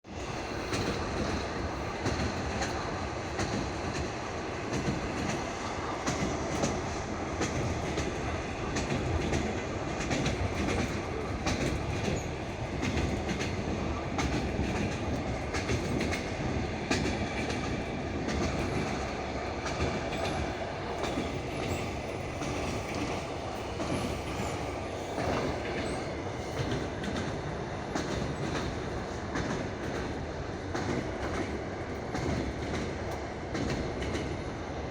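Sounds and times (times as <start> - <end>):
train rolling rumble: 0.1 - 34.9
train wheels clacking over rail joints: 0.6 - 34.5.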